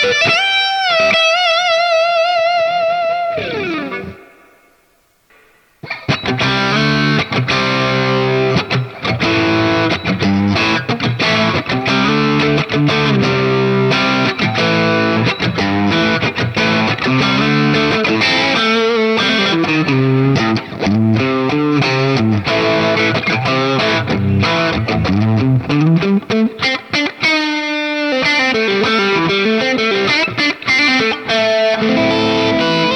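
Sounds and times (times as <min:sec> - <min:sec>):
overdriven electric guitar: 0:00.0 - 0:32.9.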